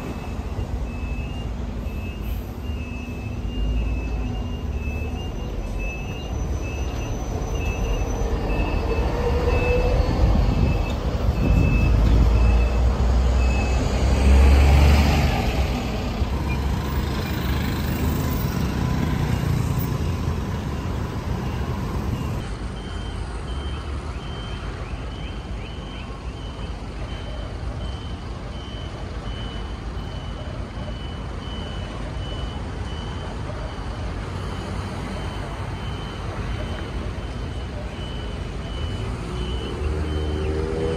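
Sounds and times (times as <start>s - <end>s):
electronic warning beeps: 0.0s - 13.8s, 16.3s - 40.9s
vehicle rumbling close by: 0.0s - 25.3s, 28.6s - 40.9s
street traffic rumble: 0.0s - 40.9s.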